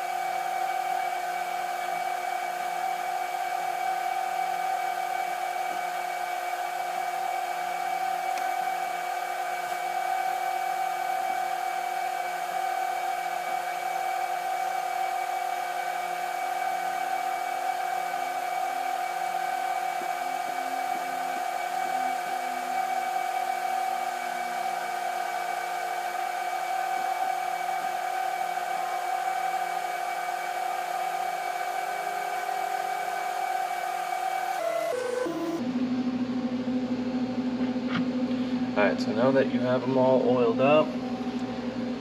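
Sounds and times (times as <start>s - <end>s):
small electric motor whirring: 0.0s - 35.6s.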